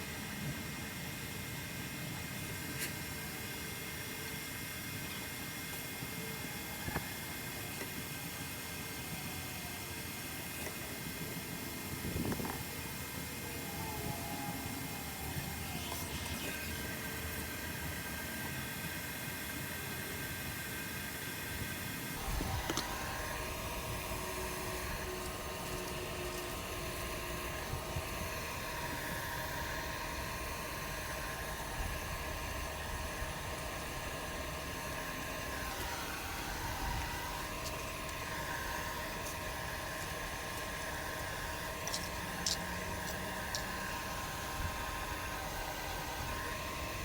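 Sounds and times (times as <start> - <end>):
mechanical hum and hiss: 0.0 - 47.0.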